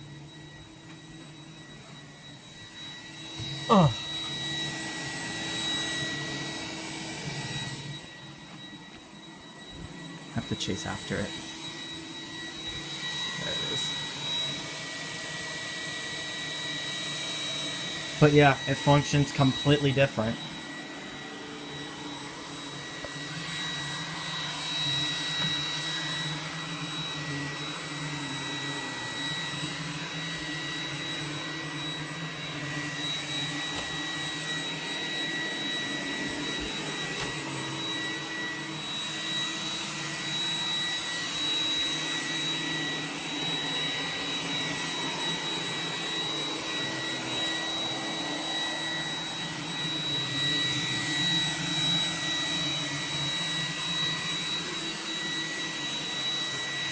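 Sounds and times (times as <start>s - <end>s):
robot vacuum running: 0.0s - 56.9s.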